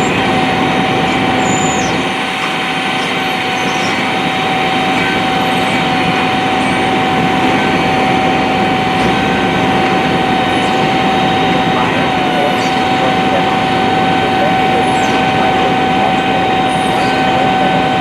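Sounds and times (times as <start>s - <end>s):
constant whine: 0.0s - 18.0s.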